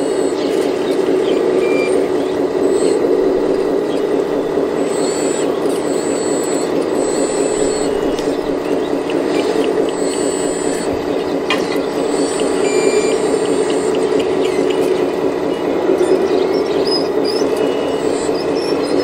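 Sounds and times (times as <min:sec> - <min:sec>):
beeps: 0:00.0 - 0:19.0
faint high whines: 0:00.0 - 0:19.0
model excavator motor drone: 0:00.0 - 0:19.0.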